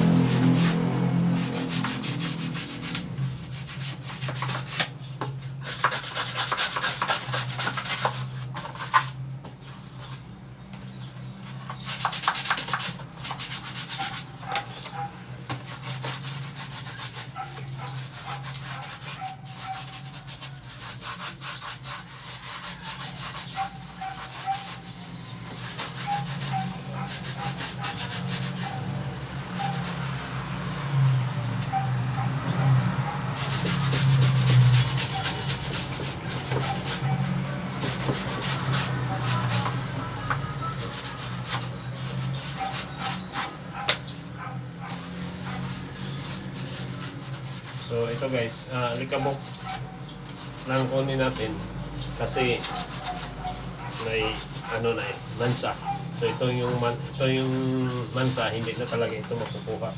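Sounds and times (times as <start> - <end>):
brush scrubbing: 0.0 - 10.2, 10.9 - 59.9.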